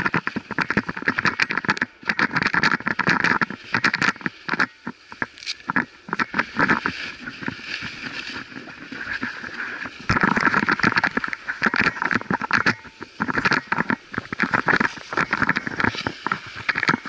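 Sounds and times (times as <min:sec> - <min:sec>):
skis scraping over snow: 0:00.0 - 0:17.0.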